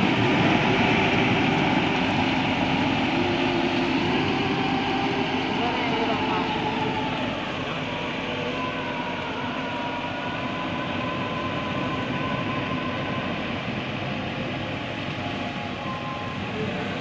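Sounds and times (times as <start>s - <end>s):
diesel engine running: 0.0s - 17.0s
faint whine: 0.0s - 17.0s.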